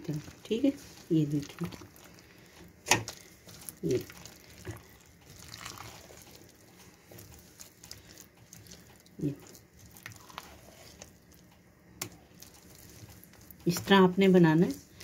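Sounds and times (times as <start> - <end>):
wet squelching batter: 0.0 - 15.0.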